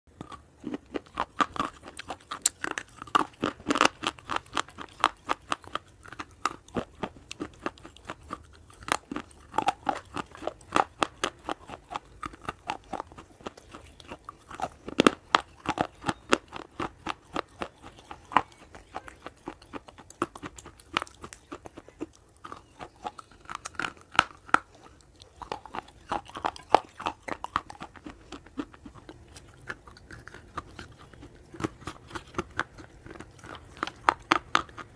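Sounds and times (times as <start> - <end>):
crisp crunching bites: 0.2 - 34.9.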